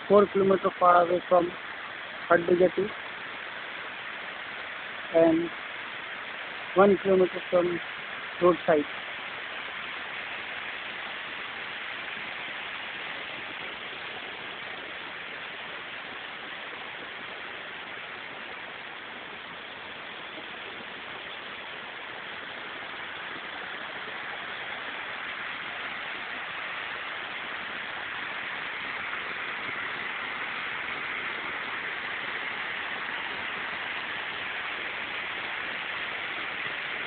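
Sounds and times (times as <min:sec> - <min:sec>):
waterfall and stream rushing: 0:00.0 - 0:37.0.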